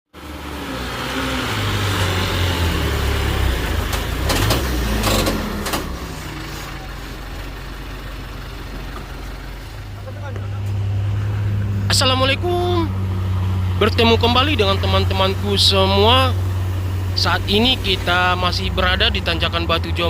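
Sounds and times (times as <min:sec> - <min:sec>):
large vehicle engine running: 0:00.1 - 0:20.0.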